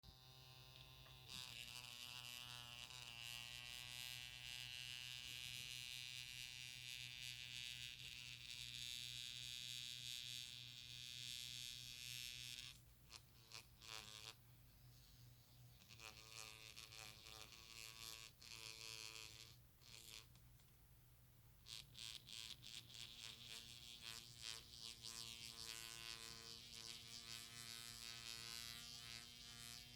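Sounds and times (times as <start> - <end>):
vibration motor buzzing: 0.0 - 14.4, 15.8 - 20.4, 21.6 - 29.9.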